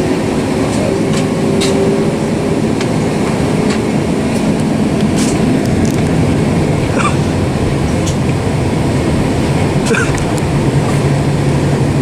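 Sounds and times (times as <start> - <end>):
jet engines rumbling: 0.0 - 12.0
wheels rolling on taxiway: 0.0 - 12.0.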